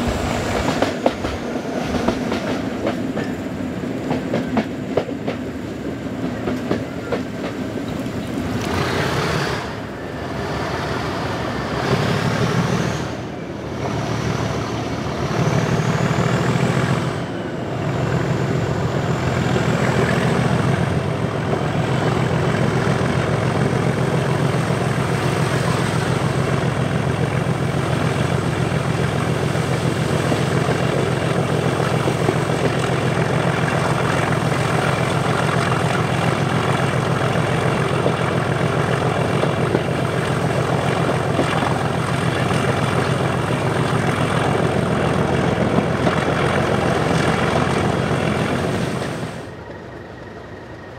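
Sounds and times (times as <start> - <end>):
diesel locomotive engine working hard: 0.0 - 50.9.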